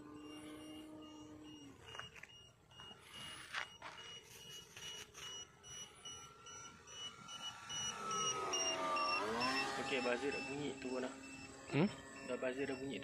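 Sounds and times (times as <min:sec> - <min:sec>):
higher beep: 0:00.0 - 0:13.0
short high buzzer beeps: 0:00.0 - 0:13.0.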